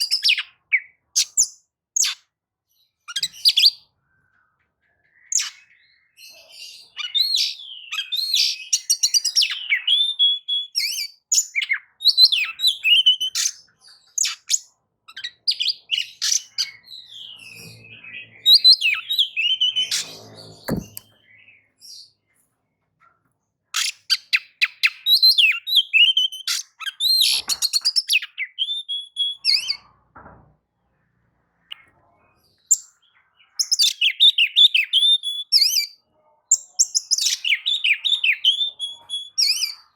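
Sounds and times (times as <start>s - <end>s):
bird singing trills and whistles: 0.0s - 2.2s, 3.0s - 21.8s, 23.8s - 29.8s, 32.7s - 39.9s.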